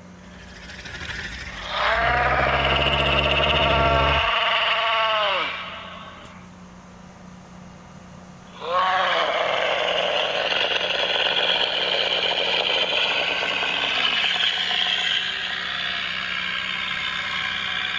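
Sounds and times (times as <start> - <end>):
harsh rasping dinosaur call: 0.2 - 6.4, 8.5 - 17.9.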